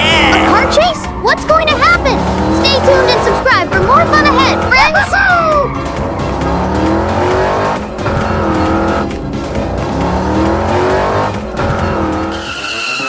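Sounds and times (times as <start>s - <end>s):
background music: 0.0s - 13.0s
racing car engine revving: 0.0s - 13.0s.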